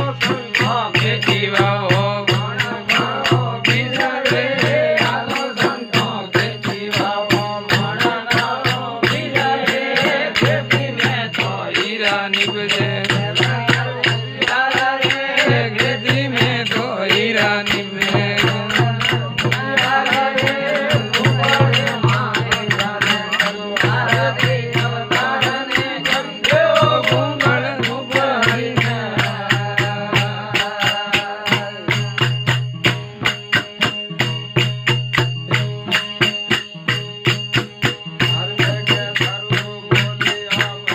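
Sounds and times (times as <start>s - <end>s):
fast percussion beat: 0.0s - 40.9s.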